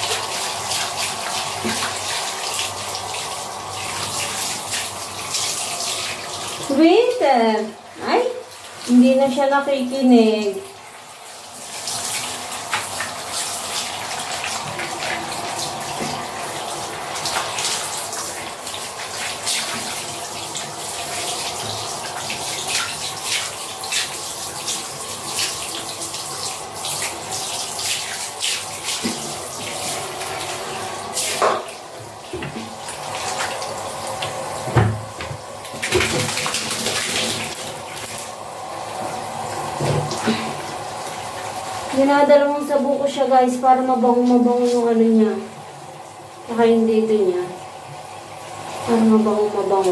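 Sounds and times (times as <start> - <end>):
shower spraying water on tiles: 0.0 - 49.9.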